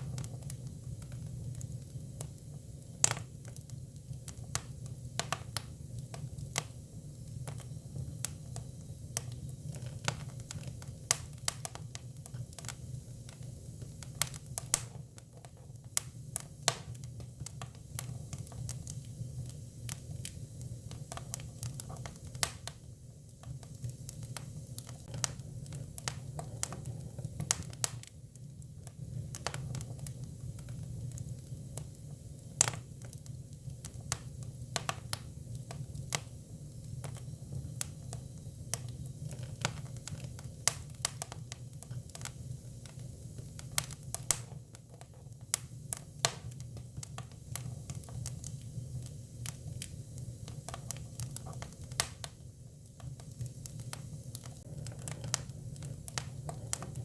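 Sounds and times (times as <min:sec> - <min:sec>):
firewood burning and crackling: 0:00.0 - 0:57.0.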